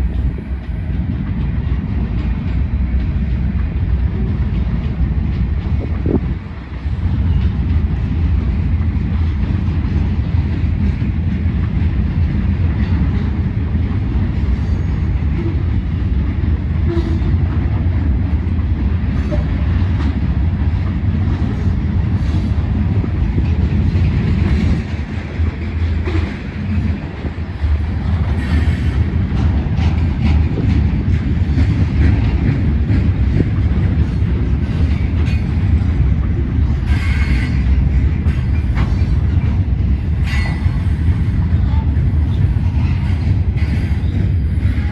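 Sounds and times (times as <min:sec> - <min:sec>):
freight train rumbling past: 0:00.0 - 0:44.9
train wheels clattering on rails: 0:00.0 - 0:44.9.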